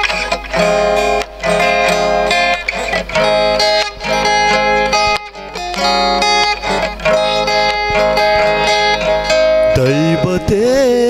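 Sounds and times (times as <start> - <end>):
acoustic guitar plucked chords: 0.0 - 11.0.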